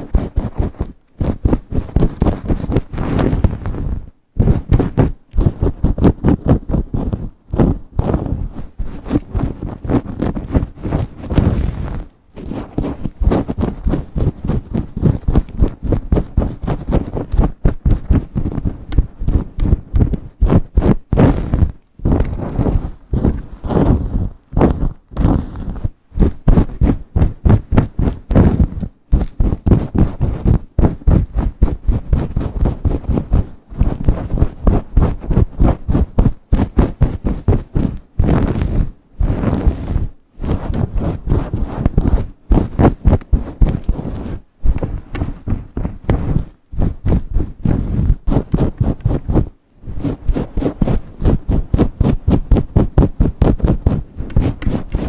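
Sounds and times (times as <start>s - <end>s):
nails scratching through hair: 0.0s - 55.0s.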